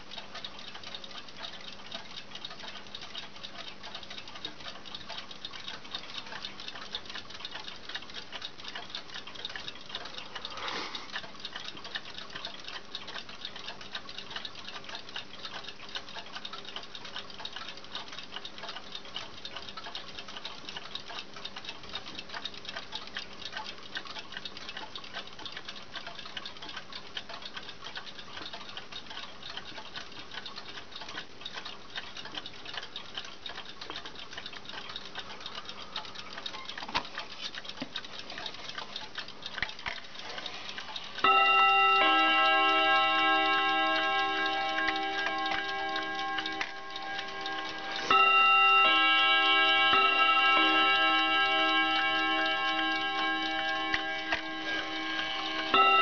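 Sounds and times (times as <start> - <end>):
clock hands clicking: 0.0 - 56.0
clock ticking: 0.0 - 56.0.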